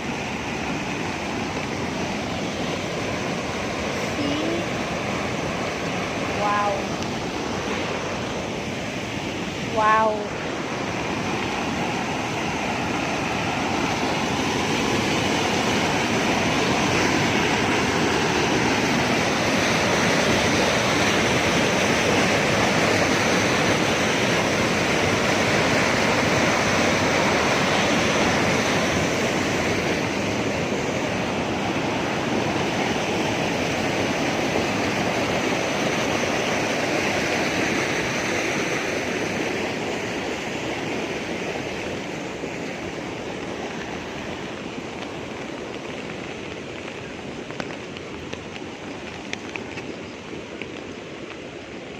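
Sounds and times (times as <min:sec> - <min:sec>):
rushing water: 0:00.0 - 0:51.9.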